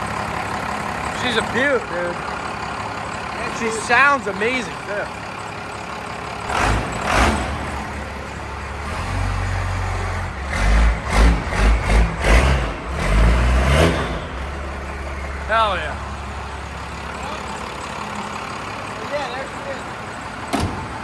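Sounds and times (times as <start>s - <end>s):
diesel engine idling and revving: 0.0s - 21.0s.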